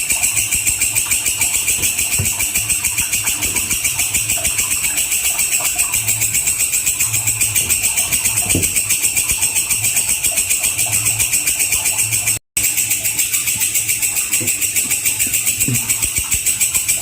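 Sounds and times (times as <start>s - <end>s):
insect chirping rapidly: 0.0s - 17.0s.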